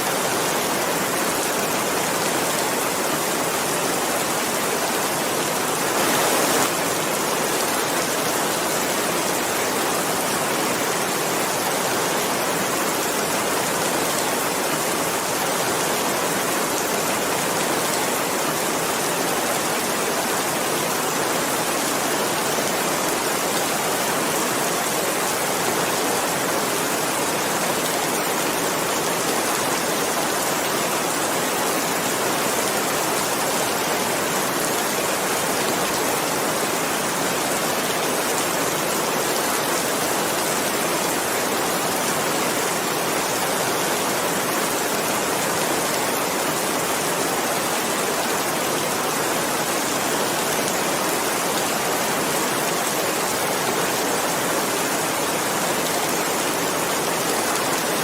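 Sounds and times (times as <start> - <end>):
dense rainfall: 0.0 - 58.0.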